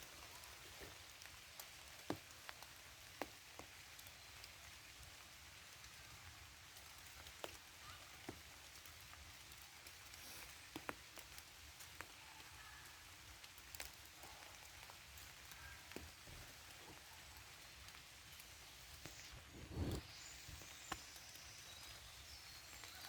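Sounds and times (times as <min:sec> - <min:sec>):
single raindrops landing close: 0:00.0 - 0:23.0
soft rain patter: 0:00.0 - 0:23.0.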